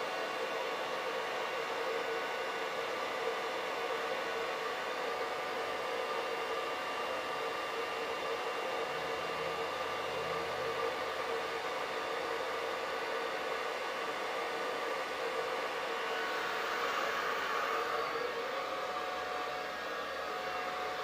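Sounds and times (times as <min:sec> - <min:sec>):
hair dryer running: 0:00.0 - 0:21.0.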